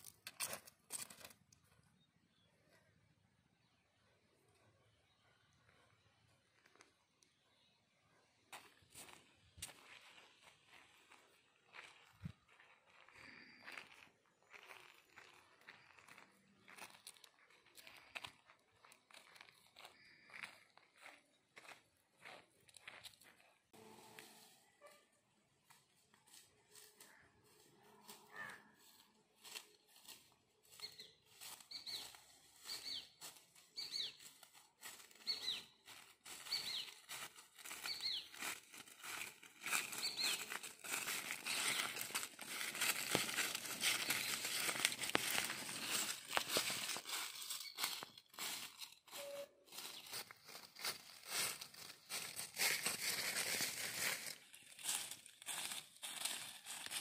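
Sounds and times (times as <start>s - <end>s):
footsteps in dry leaves: 0.0s - 1.3s, 8.5s - 24.7s, 25.6s - 57.0s.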